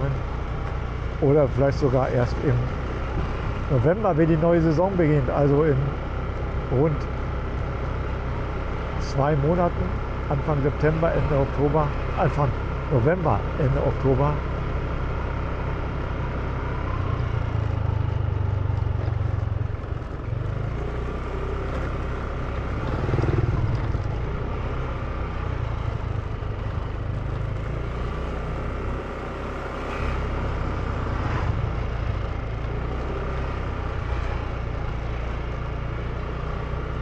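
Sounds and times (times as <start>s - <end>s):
motor scooter engine running: 4.8s - 37.0s.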